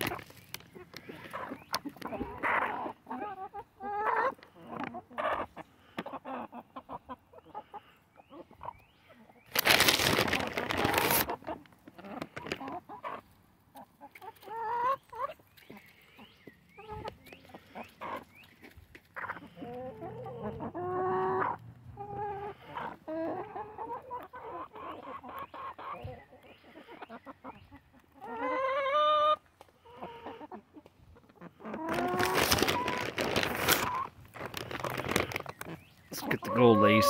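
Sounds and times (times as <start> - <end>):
hens clucking: 0.0 - 37.0
hens squawking: 0.0 - 37.0.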